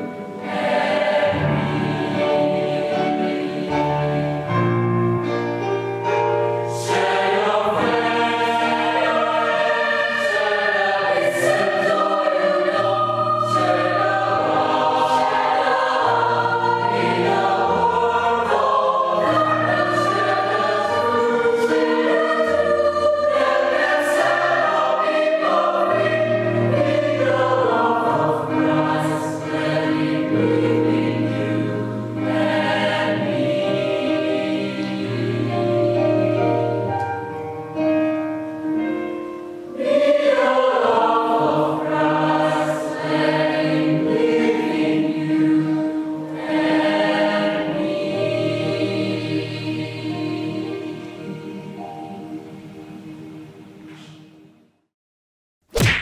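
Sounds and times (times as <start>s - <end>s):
mixed choir singing: 0.0s - 4.8s, 6.6s - 37.3s, 39.5s - 54.4s.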